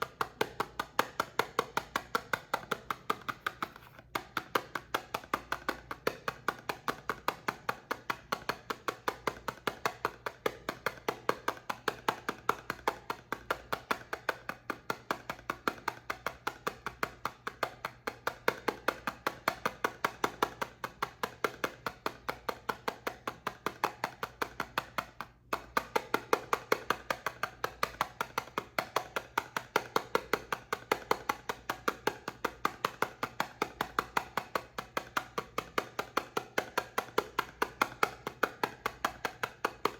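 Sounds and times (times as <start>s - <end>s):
tapping on soap: 0.0s - 39.9s.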